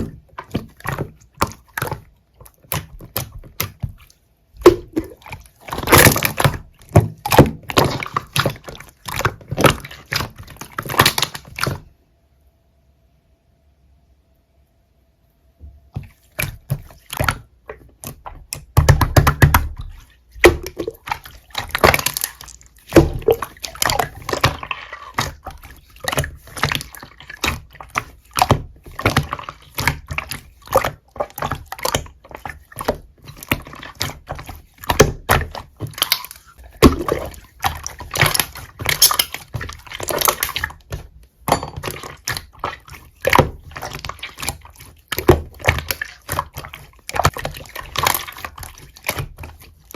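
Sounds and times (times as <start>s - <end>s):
slime squished by hand: 0.0s - 11.9s, 16.0s - 41.2s, 41.8s - 49.9s.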